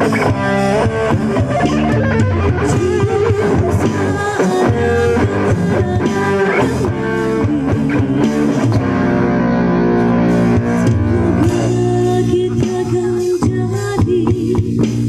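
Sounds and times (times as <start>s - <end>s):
bass: 0.0s - 15.0s
plucked guitar notes: 0.0s - 15.0s.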